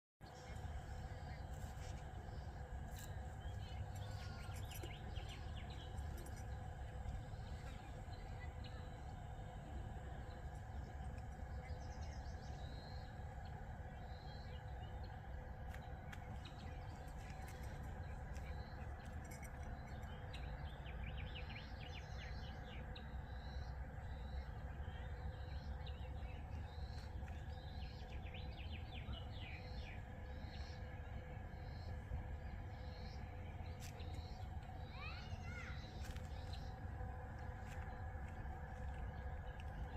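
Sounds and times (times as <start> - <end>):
birds chirping: 0.2 - 39.9
low background rumble: 0.2 - 39.9.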